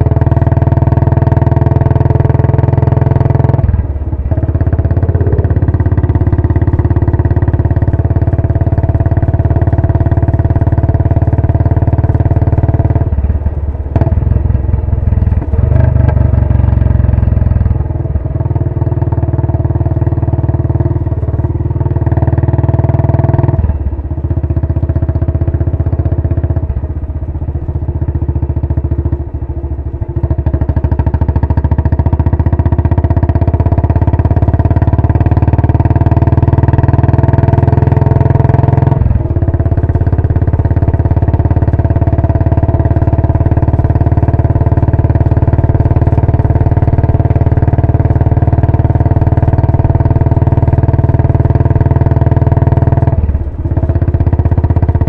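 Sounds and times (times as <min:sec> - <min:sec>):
motorcycle engine exhaust beat: 0:00.0 - 0:55.0.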